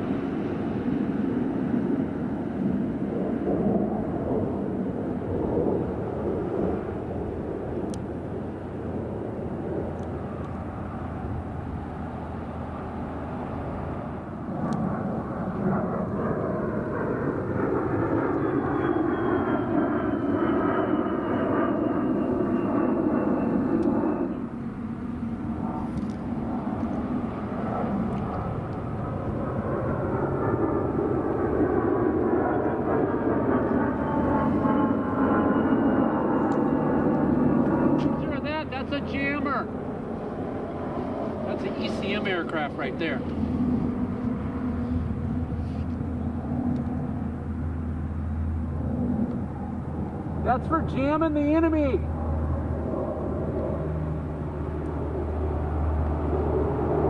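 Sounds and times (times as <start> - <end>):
aircraft engine drone with whine: 0.0 - 57.0.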